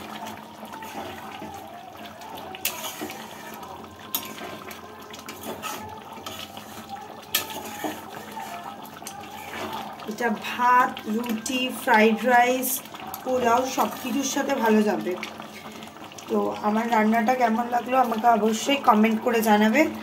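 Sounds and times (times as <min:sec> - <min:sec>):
spatula stirring thick gravy: 0:00.0 - 0:16.2.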